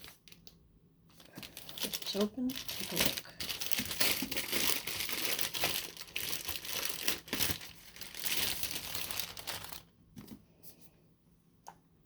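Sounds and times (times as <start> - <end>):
wrapping crinkling and tearing: 0.0 - 9.9.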